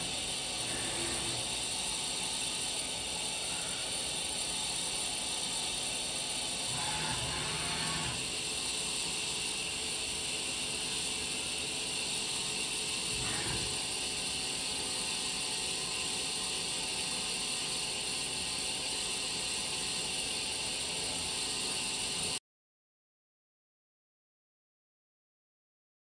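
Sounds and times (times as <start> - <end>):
milling machine high-pitched hiss: 0.0 - 22.4.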